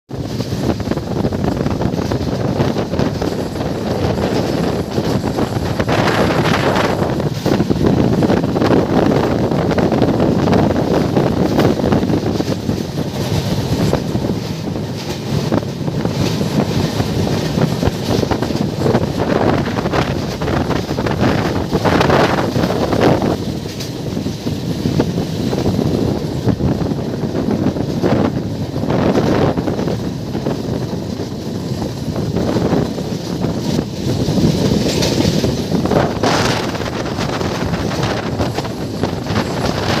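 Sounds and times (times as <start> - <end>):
train running on rails: 0.1 - 40.0
wind buffeting microphone: 0.1 - 40.0.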